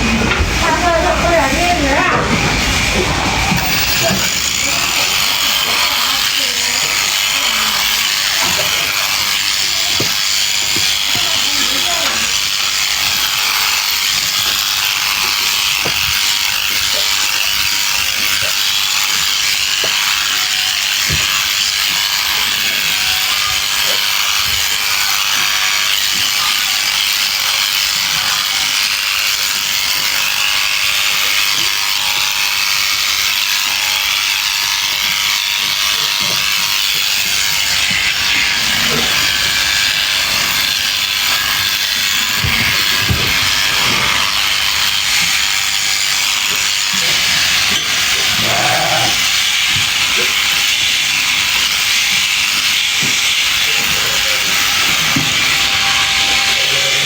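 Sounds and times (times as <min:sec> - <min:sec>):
electric sheep shears buzzing: 0:00.0 - 0:57.0.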